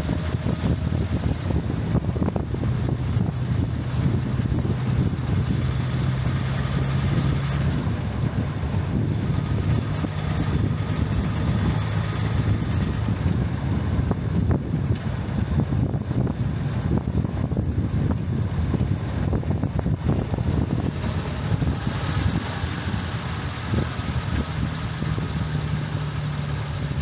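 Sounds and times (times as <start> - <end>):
car engine running: 0.0 - 27.0
wind noise on microphone: 0.0 - 27.0.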